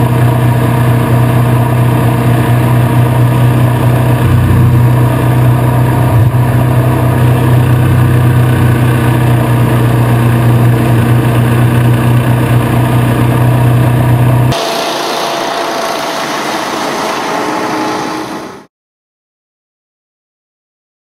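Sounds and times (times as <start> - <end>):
distant hovercraft passing: 0.0 - 18.7
hovercraft engine and fan: 0.0 - 18.7.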